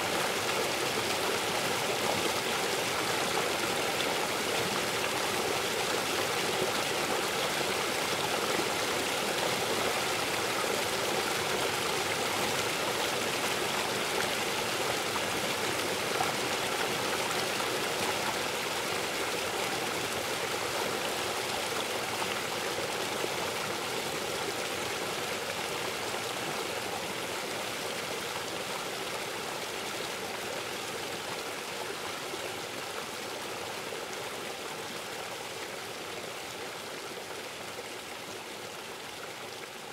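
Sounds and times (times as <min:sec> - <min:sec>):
fast-flowing stream rushing: 0:00.0 - 0:39.9.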